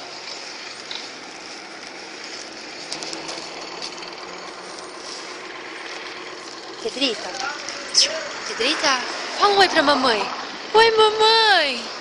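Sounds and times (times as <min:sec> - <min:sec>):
distant vehicle engine hum: 0:00.0 - 0:12.0
outdoor street noise: 0:00.0 - 0:12.0.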